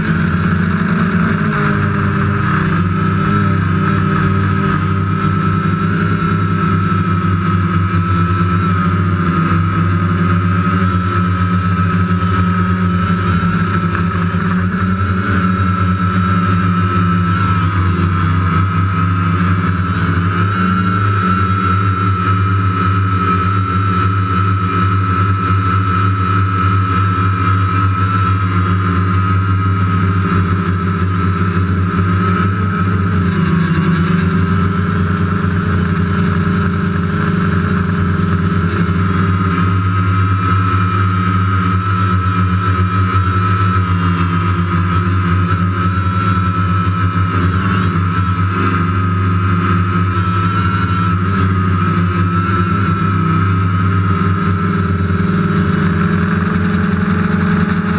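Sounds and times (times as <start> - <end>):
drone propellers buzzing: 0.0 - 57.9.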